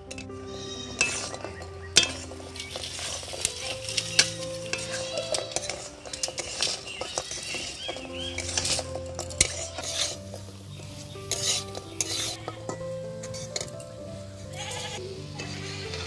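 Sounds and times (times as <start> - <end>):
metal spatula scraping a pan: 0.1 - 13.8, 14.5 - 16.0.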